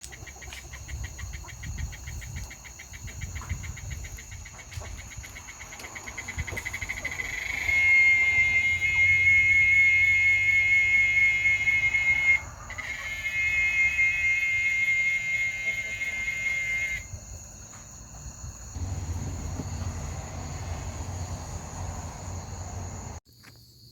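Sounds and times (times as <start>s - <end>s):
cicada buzzing: 0.1s - 17.6s, 18.3s - 23.2s.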